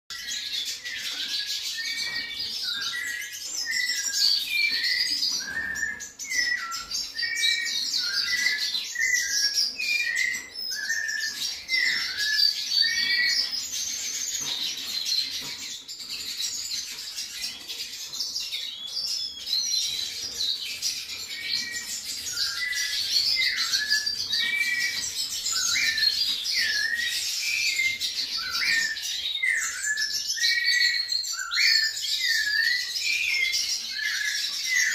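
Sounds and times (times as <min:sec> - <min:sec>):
thrush singing whistled phrases: 0:00.1 - 0:14.4, 0:18.8 - 0:34.9.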